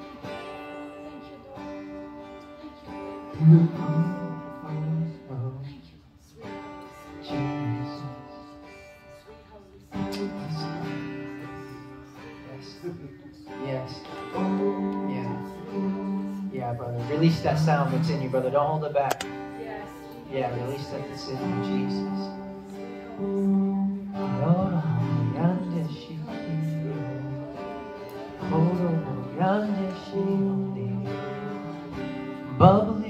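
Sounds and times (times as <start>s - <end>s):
acoustic guitar chords strummed: 0.0s - 33.0s.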